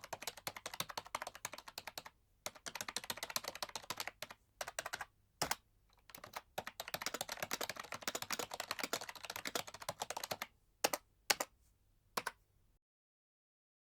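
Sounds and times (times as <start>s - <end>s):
fast typing on keyboard: 0.0s - 11.5s.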